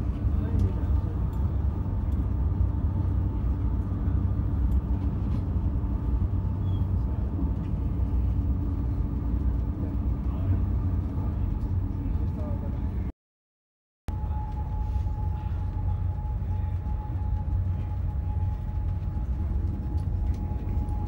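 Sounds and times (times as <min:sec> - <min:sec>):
train rumbling inside passenger car: 0:00.0 - 0:13.1, 0:14.1 - 0:21.0.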